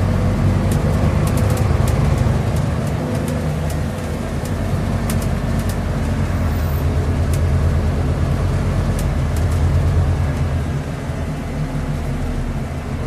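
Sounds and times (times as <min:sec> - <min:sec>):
diesel bus engine drone: 0:00.0 - 0:13.0
road noise: 0:00.0 - 0:13.0.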